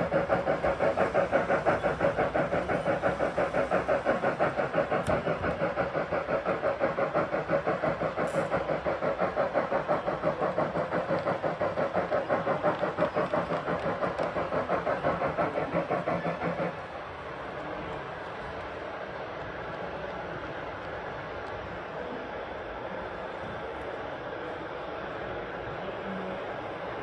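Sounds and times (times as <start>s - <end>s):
model steam locomotive chuffing: 0.0s - 27.0s.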